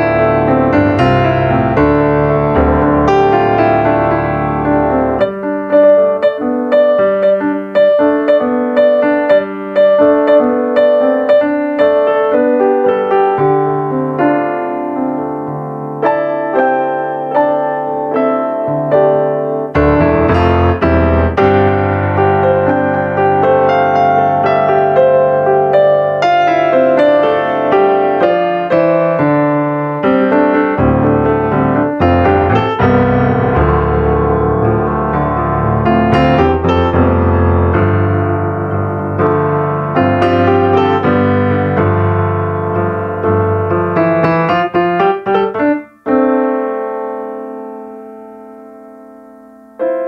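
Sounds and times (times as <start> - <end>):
piano bass notes: 0.0 - 50.0
slow piano melody: 0.0 - 50.0.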